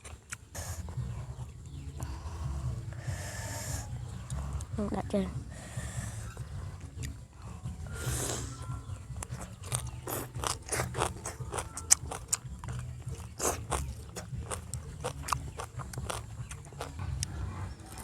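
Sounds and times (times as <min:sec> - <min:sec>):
chewing and crunching: 0:00.0 - 0:18.0
steady low rumble: 0:00.0 - 0:18.0.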